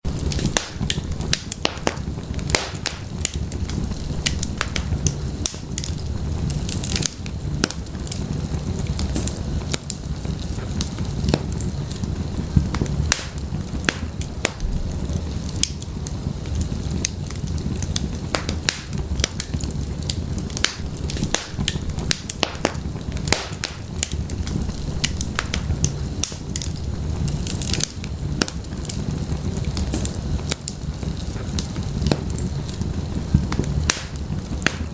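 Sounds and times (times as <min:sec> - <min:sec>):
firewood crackling and popping: 0:00.0 - 0:34.9
low rumble of flames: 0:00.0 - 0:34.9.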